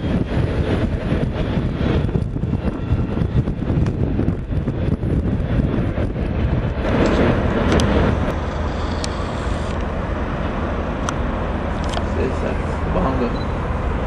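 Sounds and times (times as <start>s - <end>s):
distant freight train rumble: 0.0s - 14.0s
wind buffeting microphone: 0.0s - 14.0s.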